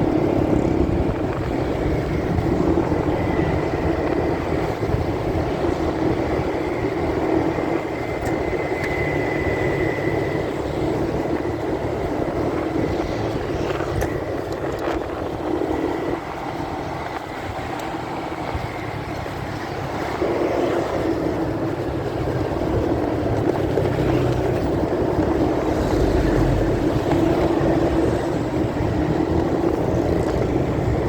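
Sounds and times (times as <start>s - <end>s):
motorcycle engine: 0.0s - 31.0s
wind rumble: 0.0s - 31.0s.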